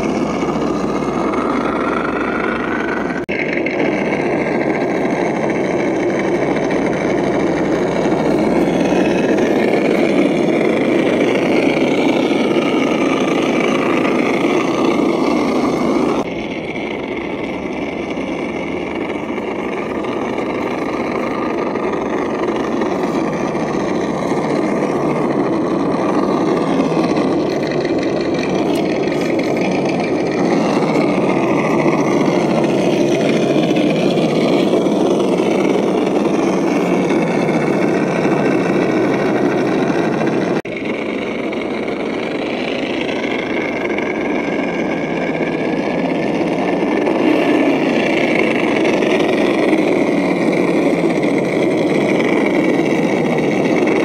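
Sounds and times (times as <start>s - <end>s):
toy car electric motor: 0.0s - 54.0s.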